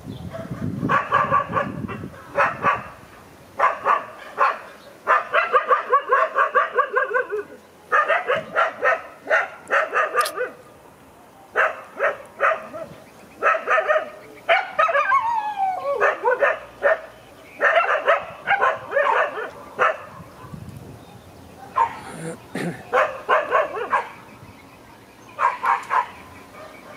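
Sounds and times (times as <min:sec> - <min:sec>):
dog barking high yips: 0:00.3 - 0:02.9, 0:03.6 - 0:10.6, 0:11.6 - 0:20.6, 0:21.7 - 0:22.1, 0:22.9 - 0:24.2, 0:25.4 - 0:26.9.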